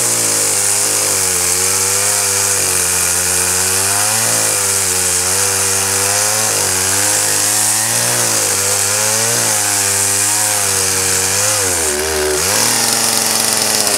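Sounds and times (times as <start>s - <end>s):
chainsaw engine: 0.0s - 13.9s.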